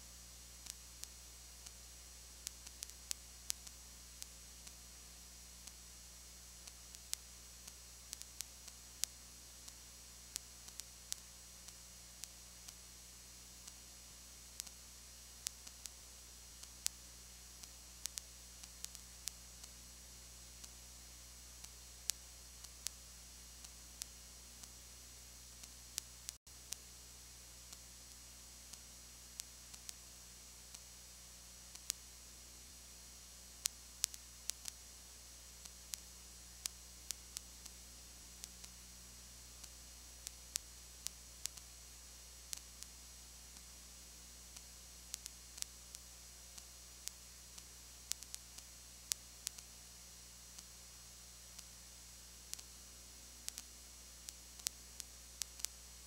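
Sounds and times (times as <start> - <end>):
electrical hum and hiss: 0.0 - 56.0
clicks and crackles: 0.6 - 56.0.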